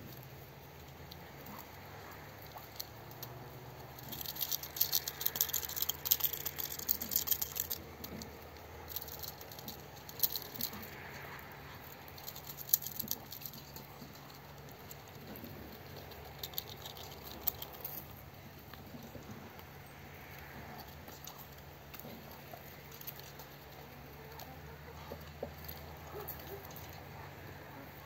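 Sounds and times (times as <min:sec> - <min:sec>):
duck bills clicking and snapping: 0:00.0 - 0:28.0.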